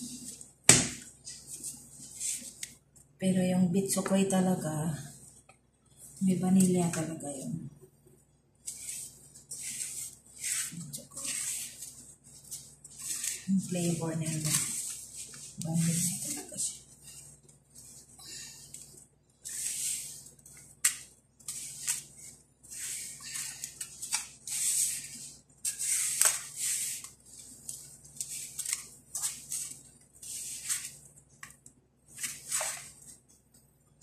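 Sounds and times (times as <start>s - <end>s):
hands kneading dough in bowl: 0.0s - 3.1s, 3.8s - 33.6s.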